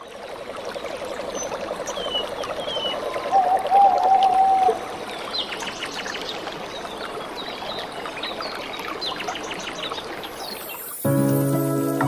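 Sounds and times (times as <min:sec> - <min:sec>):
trickling water: 0:00.0 - 0:12.0.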